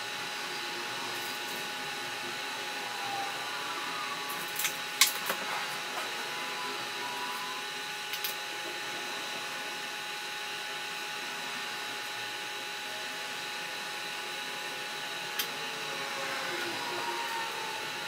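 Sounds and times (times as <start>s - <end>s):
faint constant whine: 0.0s - 18.0s.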